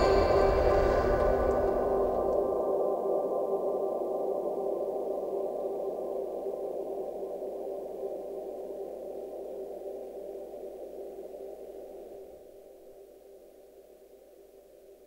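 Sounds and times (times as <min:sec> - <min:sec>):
sustained drone of held tones: 0:00.0 - 0:15.0.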